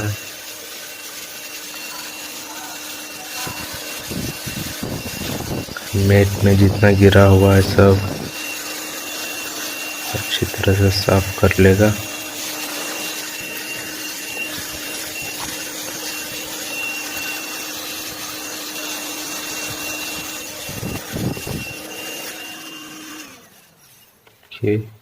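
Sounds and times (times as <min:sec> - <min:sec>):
handheld vacuum cleaner whining: 0:00.0 - 0:24.5.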